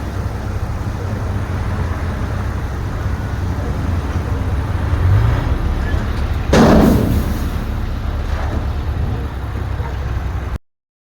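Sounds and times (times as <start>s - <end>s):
bulldozer diesel engine rumble: 0.0s - 10.6s.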